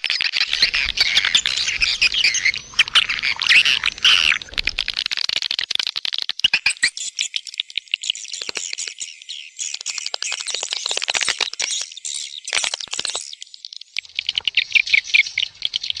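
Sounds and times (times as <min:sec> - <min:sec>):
swiftlet clicks and twittering chirps: 0:00.0 - 0:16.0.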